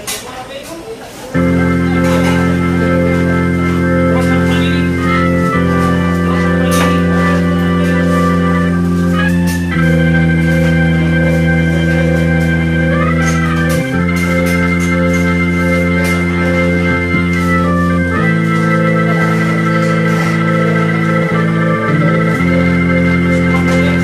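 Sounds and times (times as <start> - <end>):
background music of held chords: 1.4 - 24.0.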